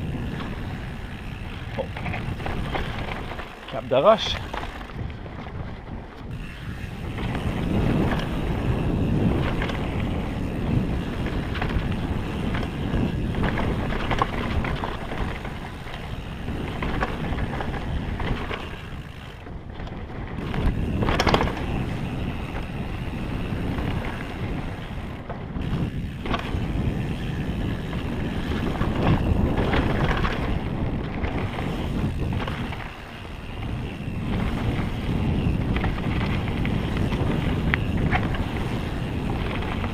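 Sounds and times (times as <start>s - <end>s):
bike rattling and knocking: 0.0s - 39.9s
tyres rolling on dirt: 0.0s - 39.9s
wind on microphone: 0.0s - 39.9s.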